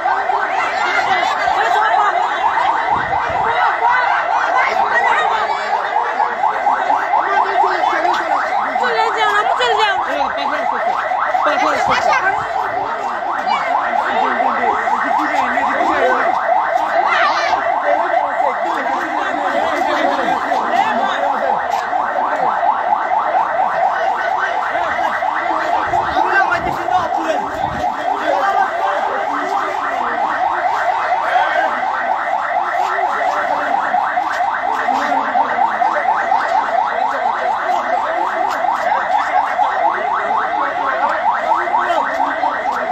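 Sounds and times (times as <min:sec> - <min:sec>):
excited voices: 0:00.0 - 0:42.9
rapid electronic alarm tone: 0:00.0 - 0:42.9.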